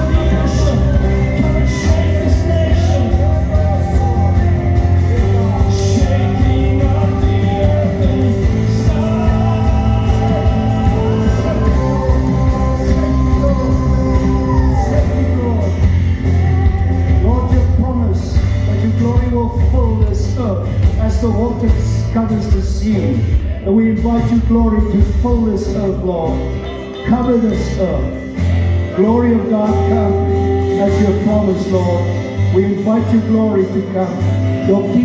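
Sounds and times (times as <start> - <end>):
person singing wordlessly: 0.0 - 23.1, 29.0 - 34.0.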